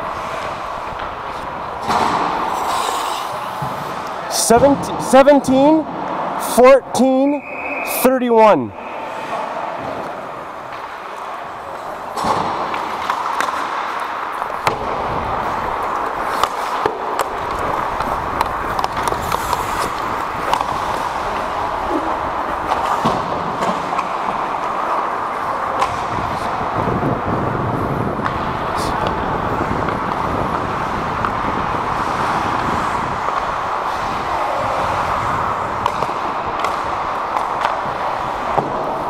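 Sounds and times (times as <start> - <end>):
skates scraping on ice: 0.0 - 6.6, 8.7 - 39.0
hockey sticks and puck clacking: 0.0 - 8.2, 8.8 - 39.0.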